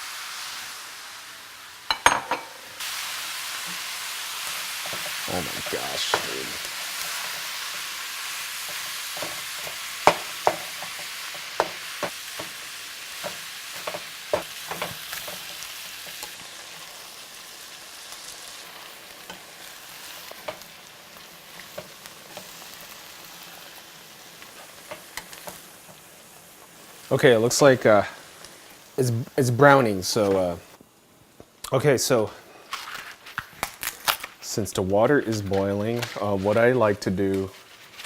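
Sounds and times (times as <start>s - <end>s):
meat sizzling in a frying pan: 0.0s - 38.0s.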